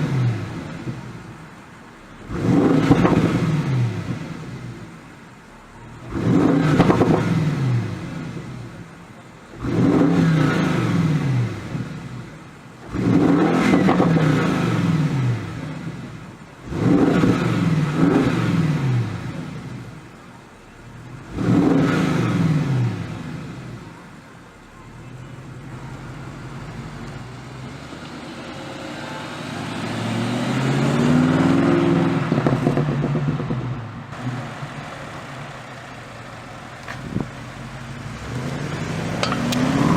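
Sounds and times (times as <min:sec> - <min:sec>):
car engine revving: 0:00.0 - 0:24.0, 0:24.8 - 0:39.9.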